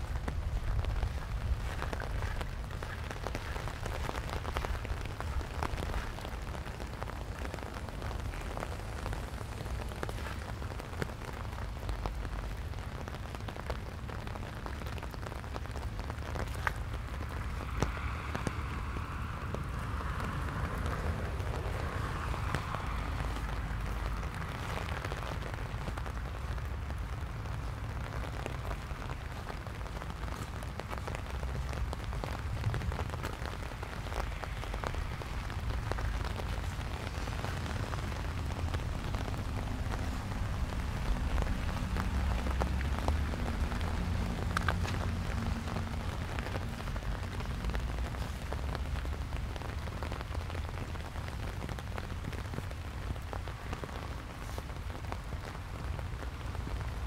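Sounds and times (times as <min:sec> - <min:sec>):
light rain falling: 0:00.0 - 0:57.0
raindrop ticks: 0:00.0 - 0:57.0
wind rumble on microphone: 0:00.0 - 0:57.0.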